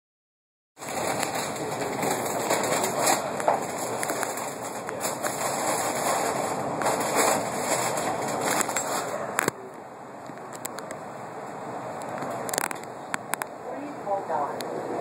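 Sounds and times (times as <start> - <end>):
train rolling through tunnel: 0.8 - 15.0.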